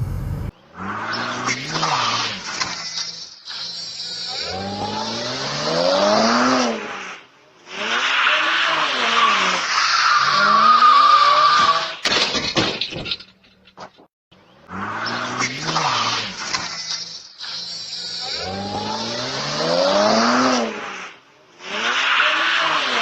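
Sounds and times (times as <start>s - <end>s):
car engine revving: 0.0s - 12.0s, 14.4s - 23.0s.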